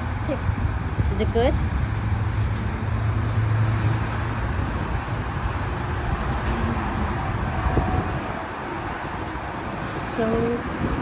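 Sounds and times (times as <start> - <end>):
low engine hum: 0.0 - 11.0
road traffic: 0.0 - 11.0.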